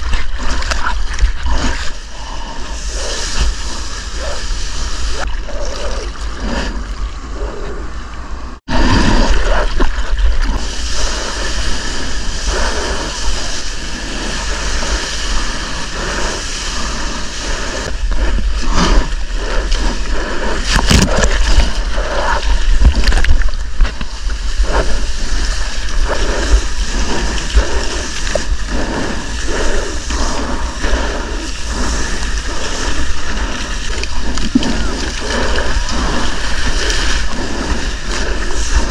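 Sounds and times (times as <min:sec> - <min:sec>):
sea water splashing: 0:00.0 - 0:38.9
wind on microphone: 0:00.0 - 0:38.9.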